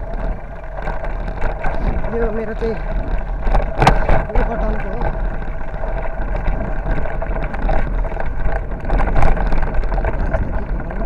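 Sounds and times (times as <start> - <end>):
bicycle rattling over gravel: 0.0 - 11.0
wind buffeting microphone: 0.0 - 11.0.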